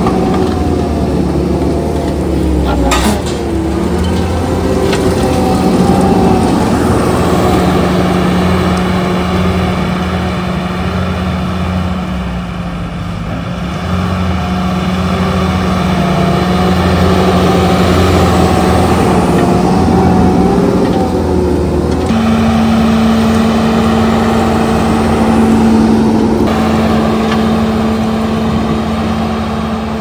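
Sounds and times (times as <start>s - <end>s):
hydraulic grinder whine: 0.0s - 12.4s, 13.2s - 30.0s
skid steer engine running hard: 0.0s - 30.0s.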